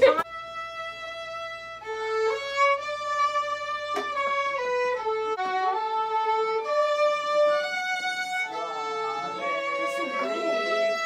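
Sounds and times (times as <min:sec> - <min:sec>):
solo violin bowed: 0:00.2 - 0:11.0.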